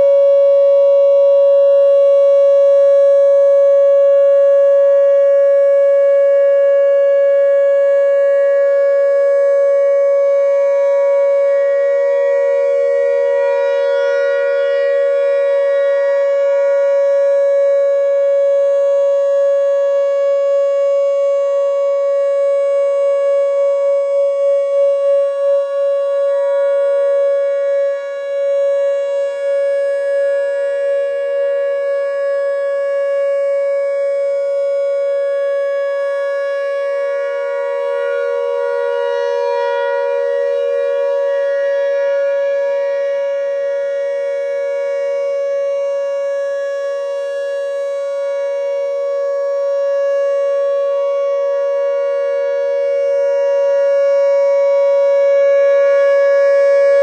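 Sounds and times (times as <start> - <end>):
distant rotating siren: 0.0 - 57.0
steady warning siren tone: 0.0 - 57.0.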